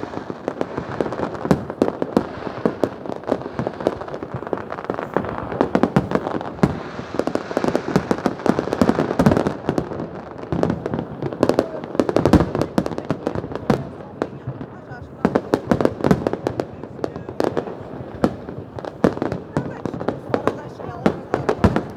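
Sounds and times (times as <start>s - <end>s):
fireworks bangs and crackles: 0.0s - 21.9s.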